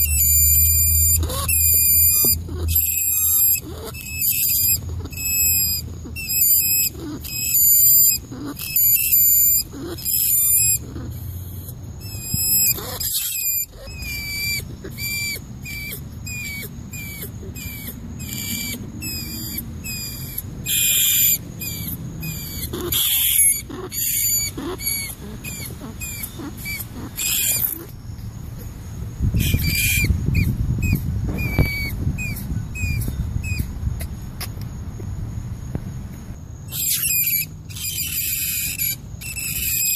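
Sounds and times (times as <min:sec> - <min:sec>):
harsh rat squeals: 0:00.0 - 0:28.0, 0:29.3 - 0:33.7, 0:36.7 - 0:39.9
rat squeaking: 0:00.0 - 0:28.0, 0:29.3 - 0:34.5, 0:36.7 - 0:39.9
low rumbling background: 0:00.0 - 0:36.7.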